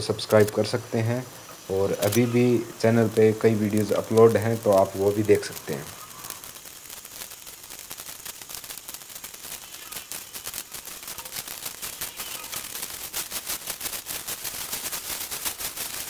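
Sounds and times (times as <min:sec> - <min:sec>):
liquid boiling with popping bubbles: 0:00.0 - 0:16.0.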